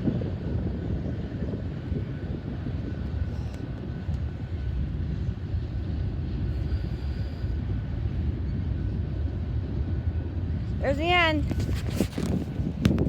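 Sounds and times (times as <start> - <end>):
train cars rumbling on track: 0.0 - 13.0.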